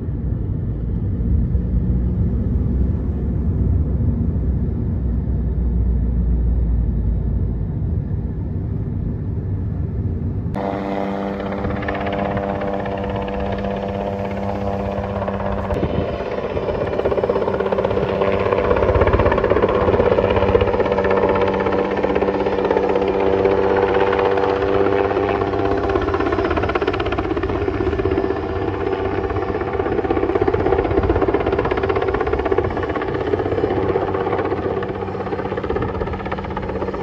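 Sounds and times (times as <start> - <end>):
helicopter flying: 0.0 - 37.0.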